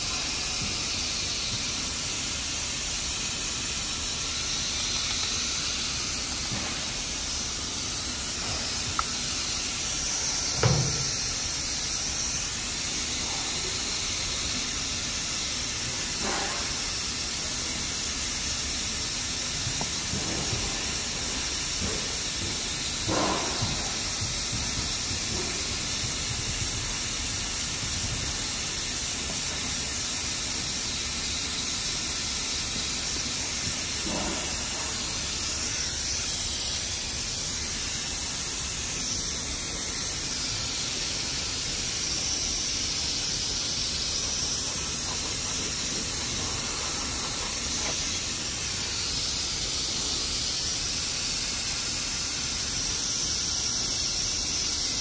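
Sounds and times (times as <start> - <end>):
foam fizzing: 0.0 - 55.0.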